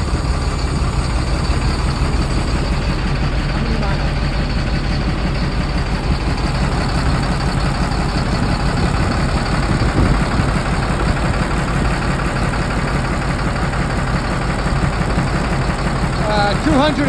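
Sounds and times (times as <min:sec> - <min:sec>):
diesel truck idling: 0:00.0 - 0:17.0.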